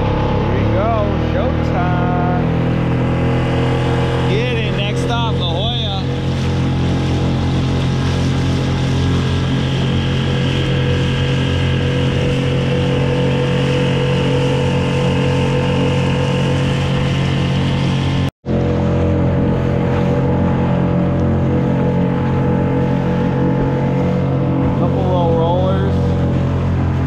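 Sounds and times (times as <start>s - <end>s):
outboard motor running: 0.0s - 27.0s
water rushing past hull: 0.0s - 27.0s.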